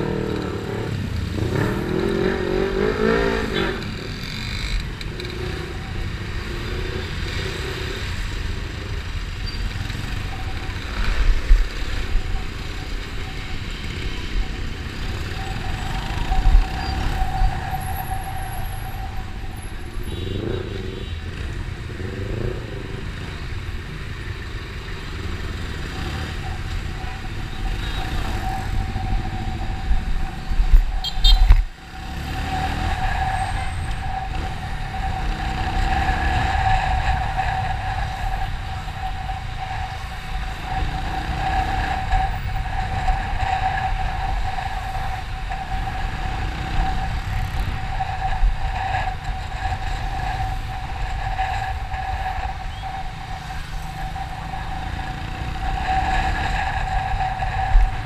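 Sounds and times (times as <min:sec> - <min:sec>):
road noise: 0:00.0 - 0:58.0
wind noise: 0:05.4 - 0:58.0.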